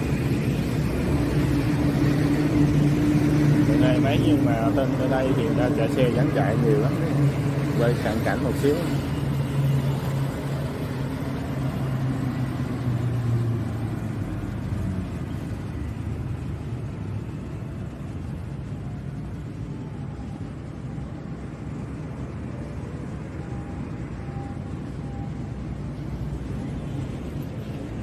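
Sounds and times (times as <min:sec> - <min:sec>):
traffic rush: 0:00.0 - 0:28.0
vehicle engine hum: 0:00.0 - 0:28.0.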